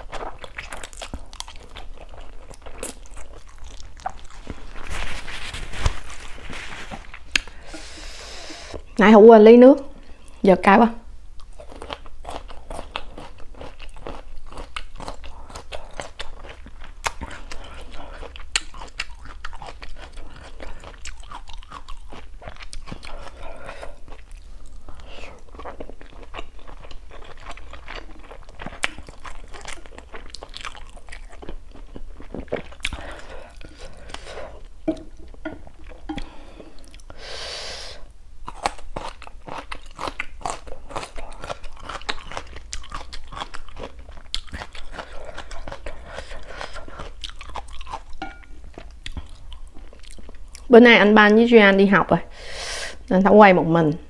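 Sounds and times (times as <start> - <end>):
person chewing noodles: 0.0 - 9.0, 11.4 - 50.7.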